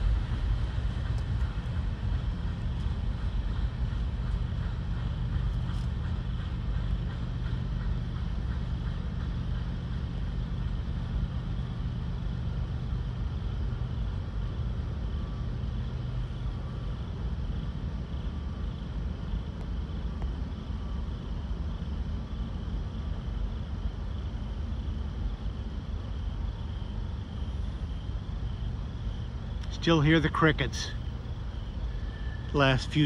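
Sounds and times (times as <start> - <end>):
crickets chirping: 0.0 - 33.0
freight train rumbling: 0.0 - 33.0.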